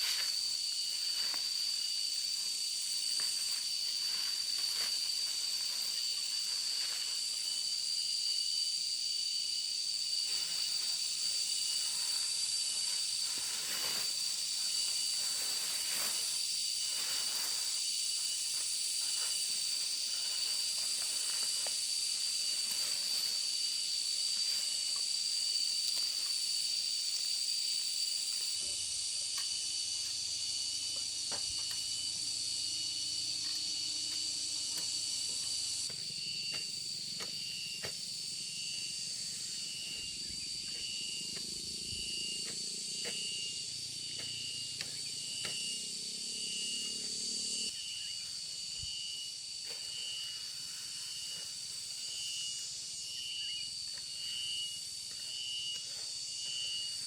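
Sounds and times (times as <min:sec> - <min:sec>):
insect continuous high whine: 0:00.0 - 0:57.0
insect pulsing call: 0:00.0 - 0:57.0.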